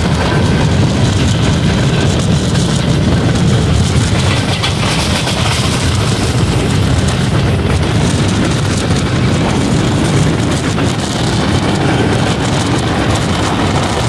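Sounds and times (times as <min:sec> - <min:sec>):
rail car running noise: 0:00.0 - 0:14.0
wind buffeting microphone: 0:00.0 - 0:14.0.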